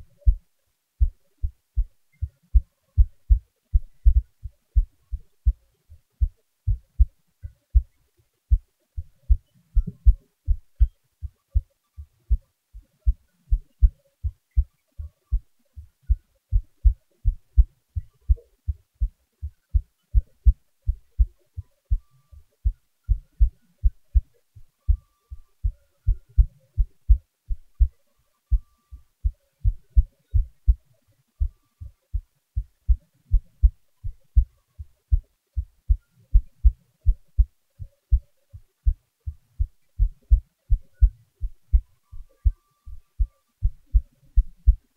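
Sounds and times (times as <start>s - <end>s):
heartbeat lub-dub thumps: 0.0s - 44.9s.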